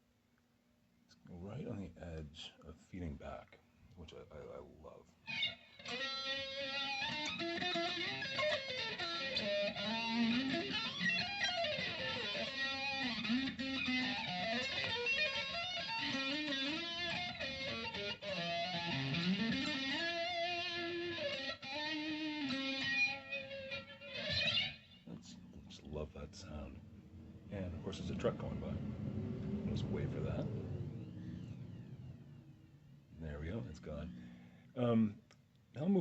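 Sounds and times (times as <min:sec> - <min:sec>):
distorted electric guitar with flanger: 0:05.2 - 0:34.6.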